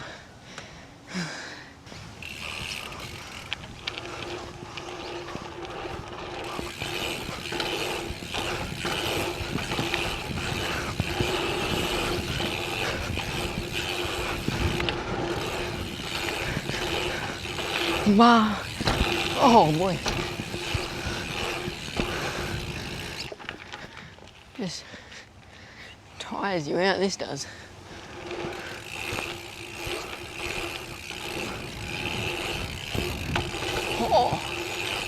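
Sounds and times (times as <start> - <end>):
bike freehub buzzing: 0.0 - 24.5, 27.5 - 35.0
bike knocking over bumps: 2.2 - 23.9, 28.2 - 35.0.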